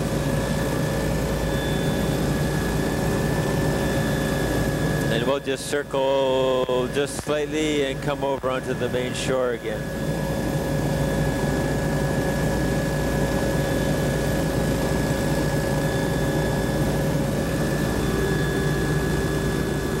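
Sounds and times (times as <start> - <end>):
aircraft engine and propeller drone: 0.0 - 20.0.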